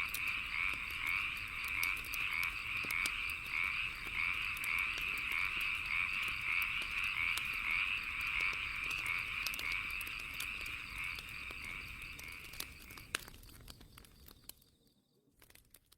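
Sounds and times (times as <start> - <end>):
frogs croaking: 0.0 - 14.8
bonfire crackling: 0.0 - 15.9.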